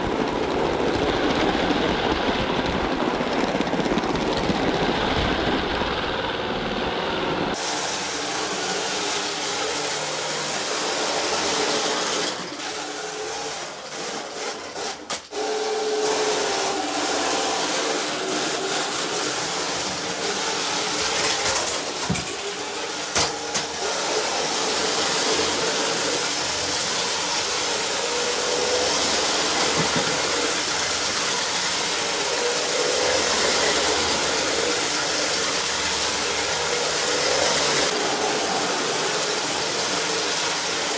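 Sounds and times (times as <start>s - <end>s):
wheels rattling over track: 0.0s - 15.5s, 16.2s - 40.9s
toy train motor whirring: 7.3s - 40.9s.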